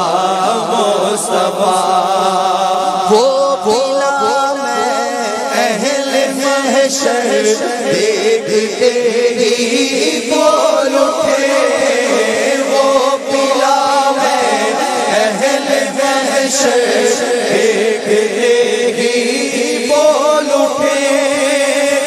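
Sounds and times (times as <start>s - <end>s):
chorus of voices chanting: 0.0s - 3.8s, 5.2s - 22.0s.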